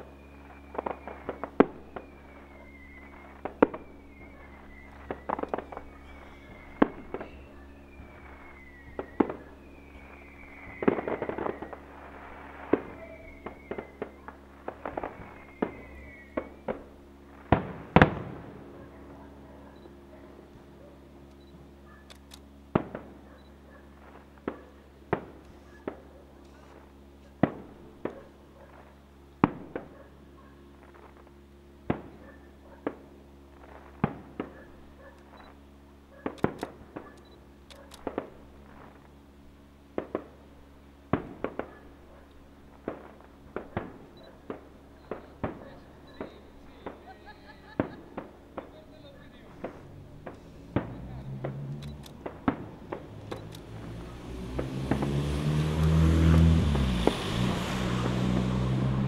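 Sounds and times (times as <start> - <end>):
fireworks bursting: 0.0 - 20.7, 22.7 - 23.3, 23.9 - 30.0, 30.8 - 55.3, 56.2 - 59.0
faint low hum: 0.0 - 54.9.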